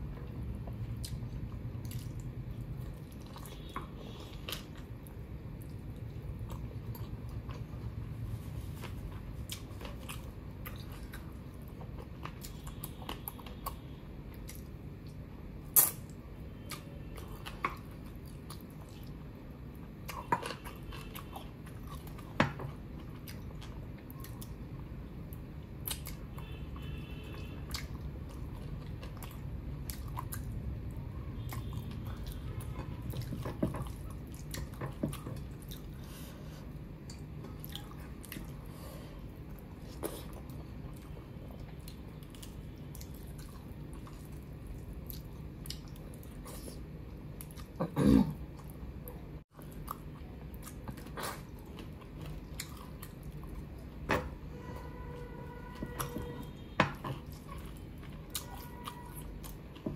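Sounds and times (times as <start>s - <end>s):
person chewing food: 0.0s - 59.9s
steady low hum: 0.0s - 59.9s.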